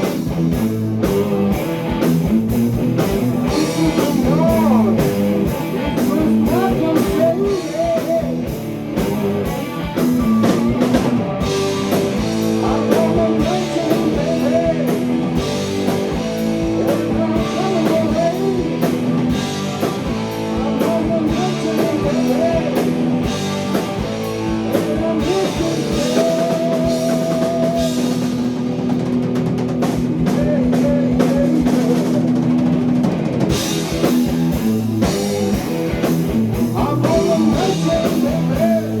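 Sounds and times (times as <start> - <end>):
blues-rock band playing live: 0.0 - 39.0
electric guitar lead line: 0.0 - 39.0.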